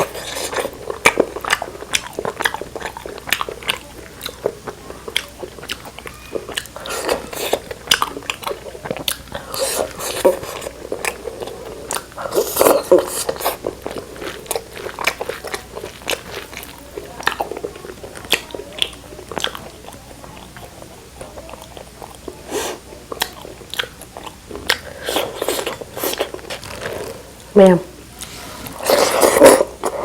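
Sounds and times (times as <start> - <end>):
crunchy chewing: 0.0 - 30.0.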